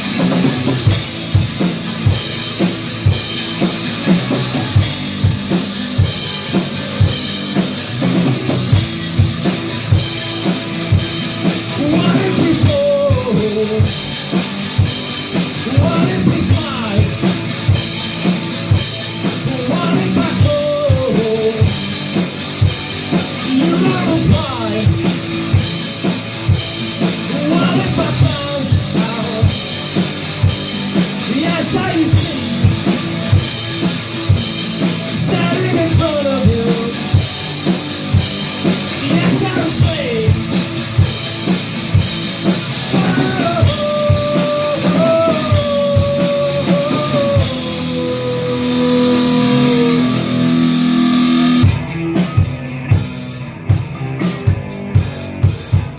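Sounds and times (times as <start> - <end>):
electric guitar lines bending: 0.0 - 52.9
drum kit beat: 0.0 - 55.9.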